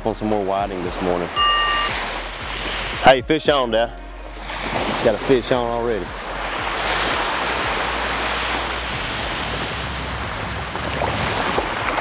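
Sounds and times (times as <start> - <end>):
small waves washing onto sand: 0.1 - 3.2, 4.3 - 12.0.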